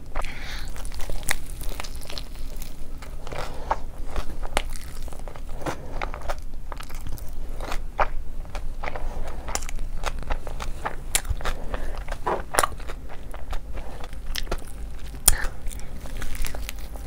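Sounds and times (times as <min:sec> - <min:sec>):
person chewing and biting food: 0:00.0 - 0:17.0.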